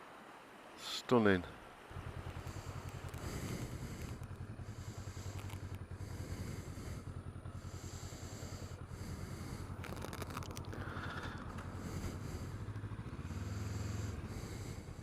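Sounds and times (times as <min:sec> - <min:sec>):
motorcycle engine idling: 0:01.9 - 0:15.0.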